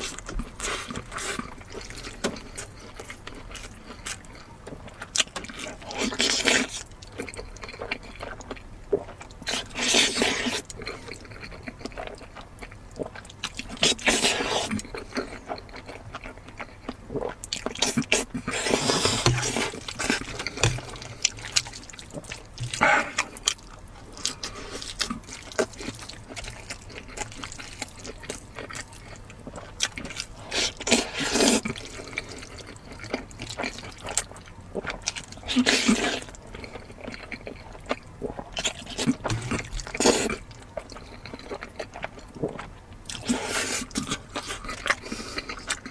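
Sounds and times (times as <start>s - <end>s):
wet chewing and lip-smacking: 0.0s - 45.9s.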